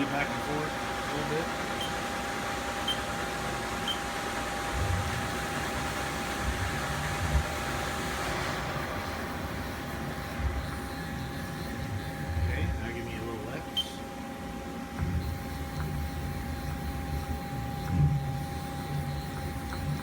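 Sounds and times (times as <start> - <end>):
high machine whine: 0.0 - 20.0
lathe humming: 0.0 - 20.0.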